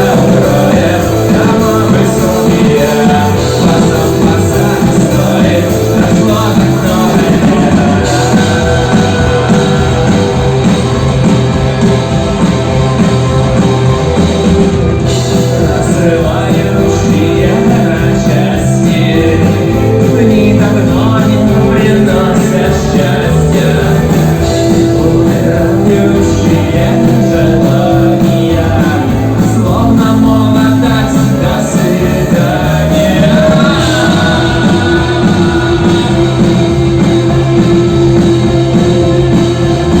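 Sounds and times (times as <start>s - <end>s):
rock song with singing: 0.0s - 40.0s.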